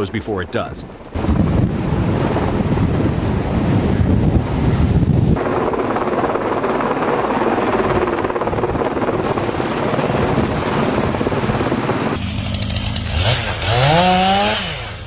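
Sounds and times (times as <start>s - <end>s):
wind rumble on microphone: 0.0s - 12.8s
helicopter rotor chopping: 0.0s - 15.0s.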